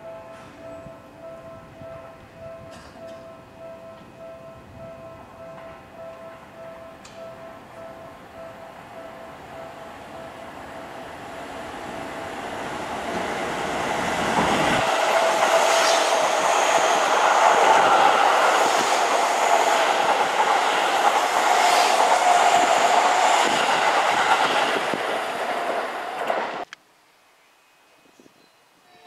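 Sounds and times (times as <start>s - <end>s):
train rushing past: 0.1s - 26.7s.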